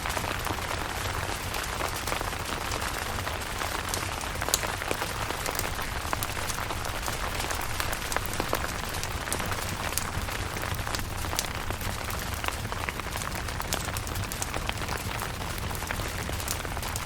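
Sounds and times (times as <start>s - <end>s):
rain drops ticking on a surface: 0.0s - 17.0s.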